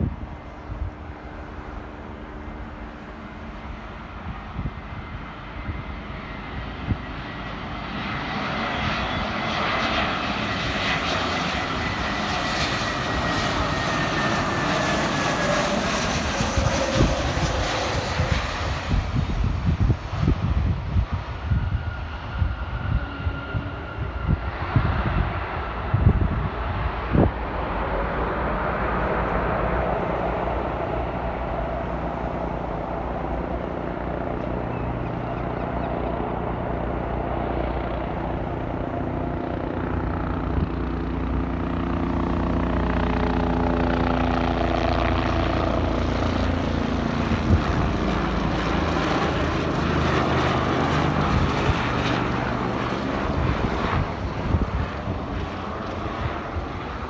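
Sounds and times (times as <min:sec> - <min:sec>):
aircraft engines passing: 0:00.0 - 0:57.0.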